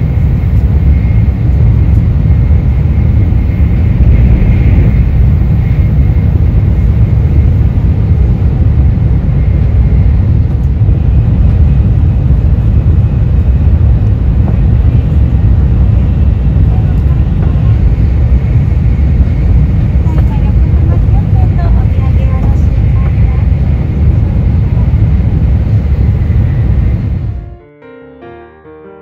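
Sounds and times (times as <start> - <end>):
train rumble inside passenger car: 0.0 - 27.5
faint high whine: 0.0 - 27.6.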